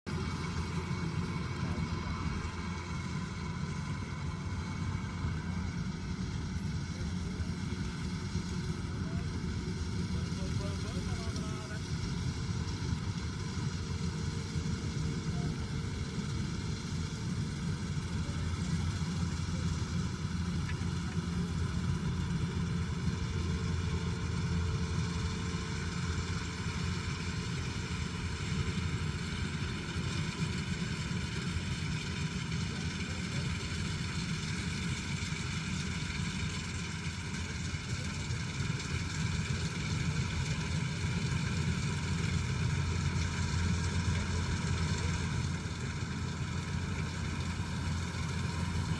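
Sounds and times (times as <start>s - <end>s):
diesel engine running: 0.0s - 48.9s
machine drives humming and whirring: 0.1s - 48.9s.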